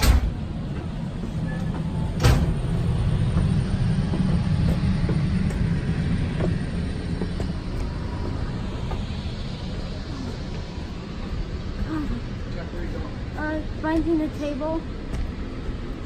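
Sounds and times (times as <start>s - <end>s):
train coach rumble: 0.0s - 16.0s.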